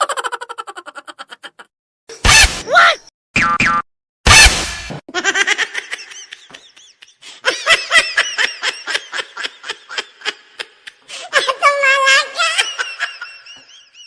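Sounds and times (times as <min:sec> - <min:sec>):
high-pitched comedy laughter: 0:00.0 - 0:02.6, 0:05.1 - 0:14.0.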